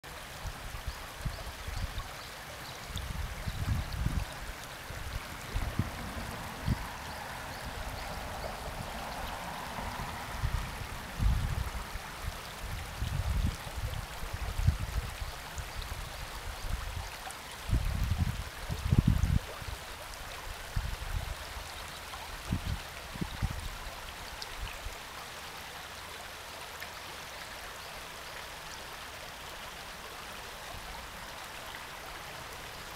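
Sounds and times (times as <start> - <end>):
river rushing over stones: 0.0 - 32.9.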